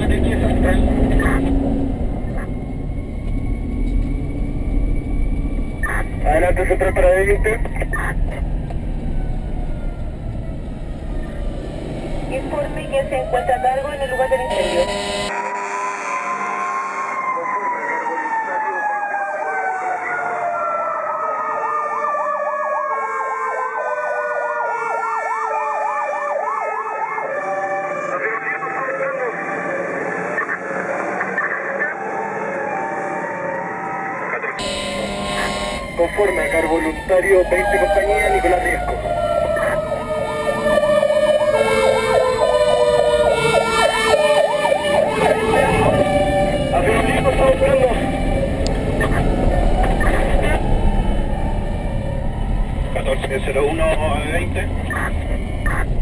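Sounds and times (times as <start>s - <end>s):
electronic siren yelping: 0.0s - 11.6s, 12.3s - 56.0s
mechanical siren wailing: 0.0s - 56.0s.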